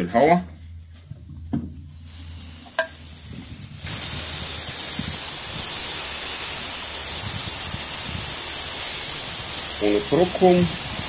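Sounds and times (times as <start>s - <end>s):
gas hissing from valve: 1.8s - 11.0s.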